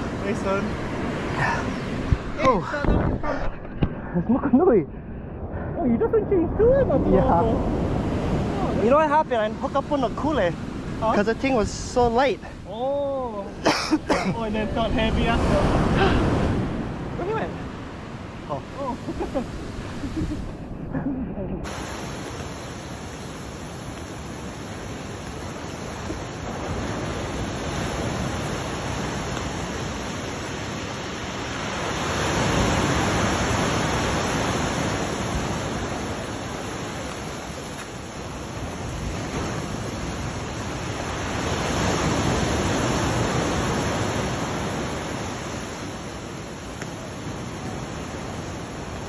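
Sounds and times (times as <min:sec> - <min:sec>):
ocean surf on shoreline: 0:00.0 - 0:49.0.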